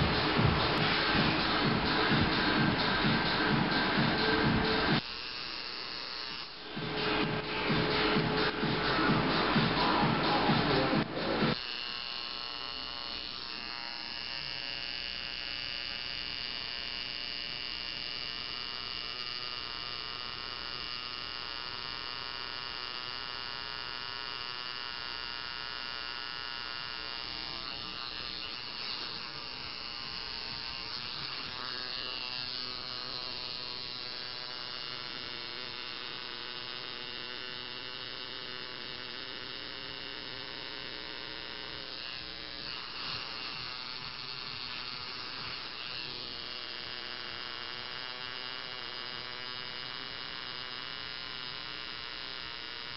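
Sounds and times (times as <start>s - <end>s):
tattoo machine buzzing: 0.0s - 52.9s.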